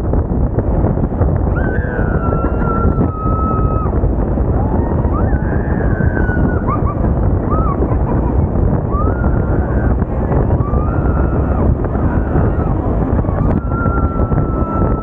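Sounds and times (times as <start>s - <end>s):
bus and traffic rumble: 0.0s - 15.0s
wind buffeting microphone: 0.0s - 15.0s.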